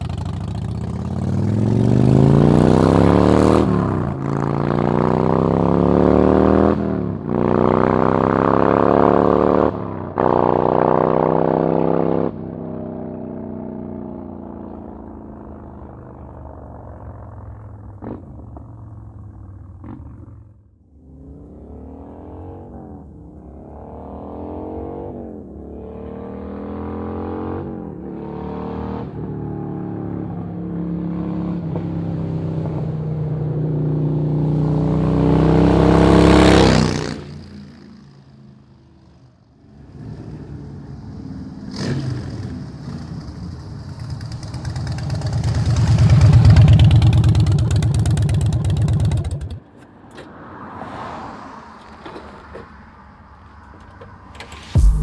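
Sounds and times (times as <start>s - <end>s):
motorcycle engine accelerating: 0.0s - 50.2s, 53.5s - 55.0s.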